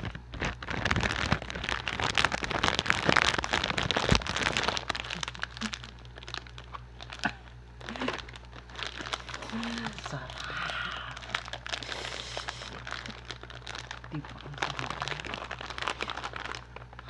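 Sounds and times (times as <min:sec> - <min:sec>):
crisp snack crunching: 0:00.0 - 0:17.0
plastic snack bag crinkling: 0:00.0 - 0:17.0.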